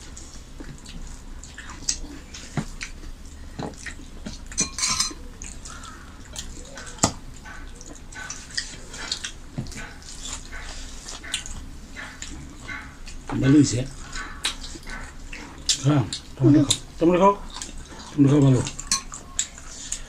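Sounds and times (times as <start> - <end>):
fingers mixing rice on plates: 0.0 - 20.0
wet chewing and lip-smacking: 0.0 - 20.0.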